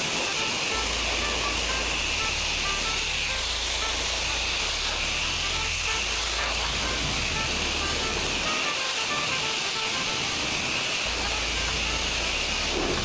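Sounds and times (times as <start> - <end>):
motor humming low: 0.0 - 13.0
pressure washer spraying water: 0.0 - 13.0.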